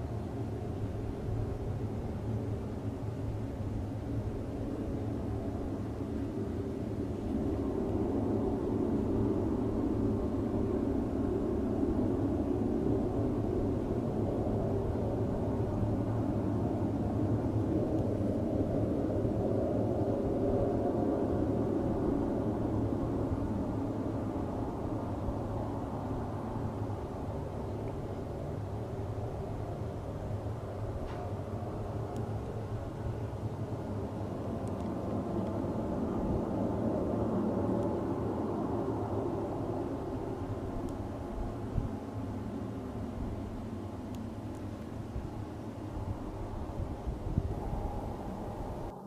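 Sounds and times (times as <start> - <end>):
low roaring drone: 0.0 - 49.0.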